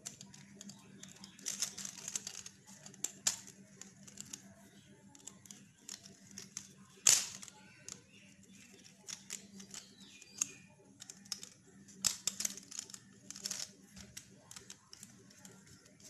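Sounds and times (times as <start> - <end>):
plastic clicks and rustles: 0.0 - 16.0.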